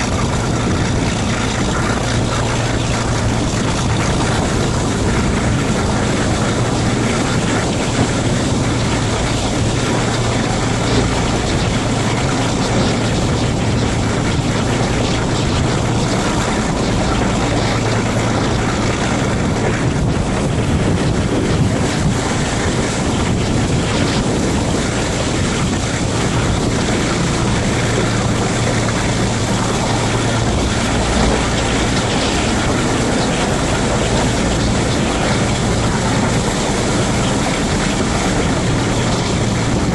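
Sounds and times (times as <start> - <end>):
diesel locomotive drone: 0.0 - 39.9
wheel and rail noise: 0.0 - 39.9
wind rush on microphone: 0.0 - 39.9.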